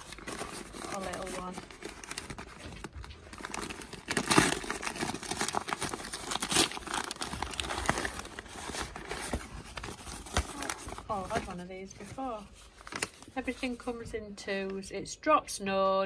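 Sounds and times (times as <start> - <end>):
paper wrapping rustling and crinkling: 0.0 - 14.1.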